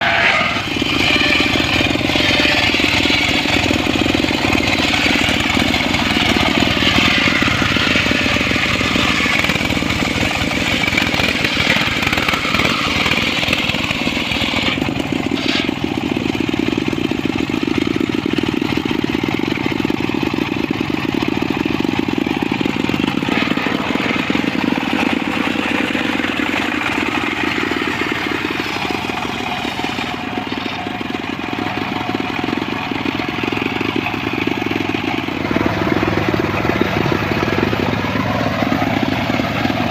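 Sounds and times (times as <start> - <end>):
saw cutting wood: 0.0 - 20.4, 21.8 - 39.9
circular saw motor running: 0.0 - 39.9.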